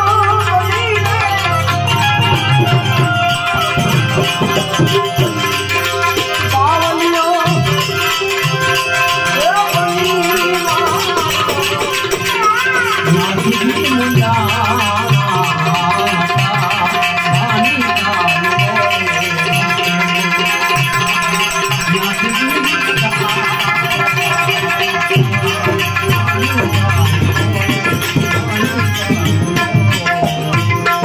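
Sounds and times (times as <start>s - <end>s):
person singing wavering melody: 0.0s - 31.0s
sustained instrumental tones: 0.0s - 31.0s
tabla: 0.0s - 31.0s.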